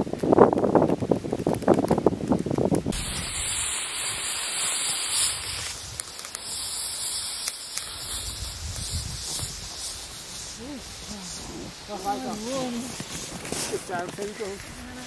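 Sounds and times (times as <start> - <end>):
steady hissing: 0.0 - 15.0.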